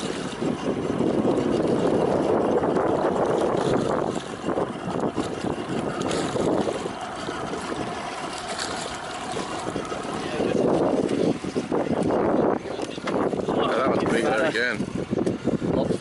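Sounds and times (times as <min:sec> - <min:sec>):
water sloshing against hull: 0:00.0 - 0:16.0
wind buffeting microphone: 0:00.0 - 0:16.0.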